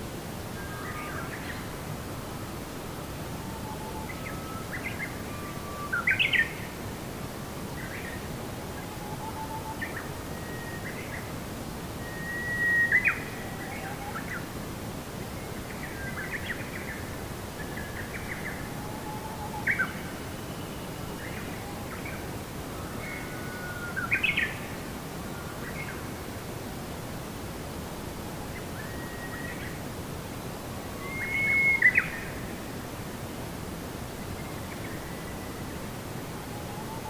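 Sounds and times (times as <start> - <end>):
outdoor ambience hiss: 0.0 - 37.0.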